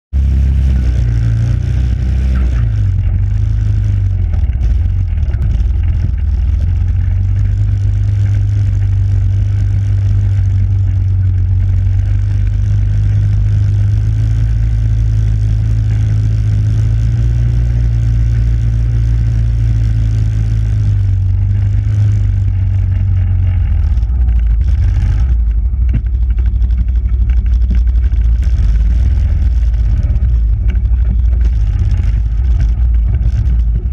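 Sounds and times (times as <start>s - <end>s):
engine running at low speed: 0.0s - 33.9s.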